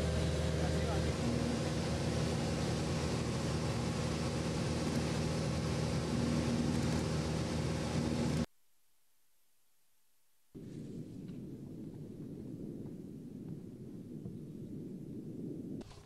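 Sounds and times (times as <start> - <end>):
light aircraft engine drone: 0.0 - 8.5, 10.6 - 16.0.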